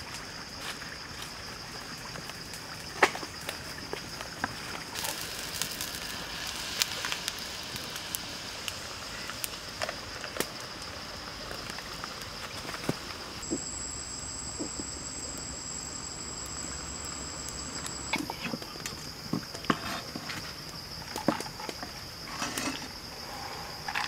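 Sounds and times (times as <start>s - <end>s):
wood fire crackling: 2.1s - 24.0s.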